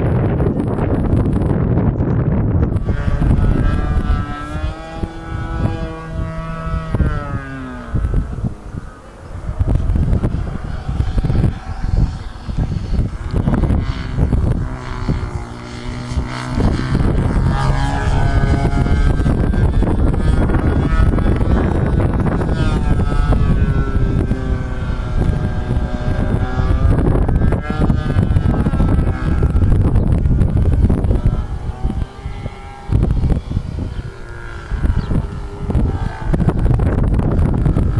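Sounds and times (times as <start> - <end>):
model airplane engine buzzing: 0.0 - 37.9
wind buffeting microphone: 0.0 - 37.9.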